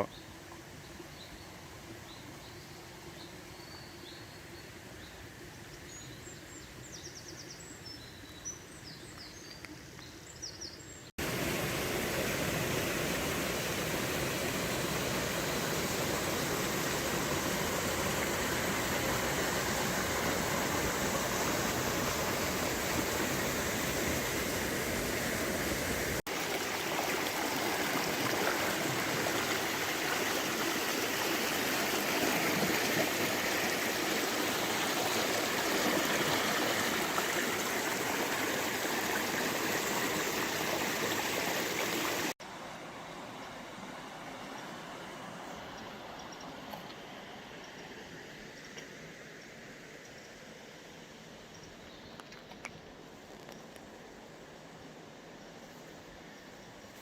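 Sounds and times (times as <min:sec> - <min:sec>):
river running over shallows: 0:11.2 - 0:57.0.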